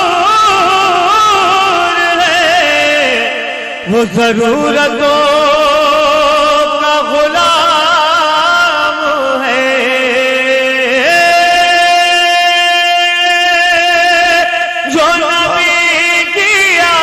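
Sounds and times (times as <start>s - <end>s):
man singing through microphone: 0.0s - 17.0s.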